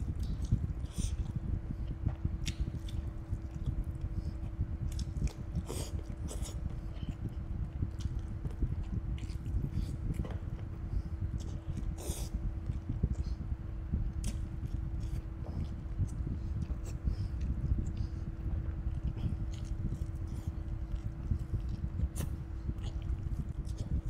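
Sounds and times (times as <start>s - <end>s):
chewing and biting food: 0.1s - 10.6s, 11.2s - 24.0s.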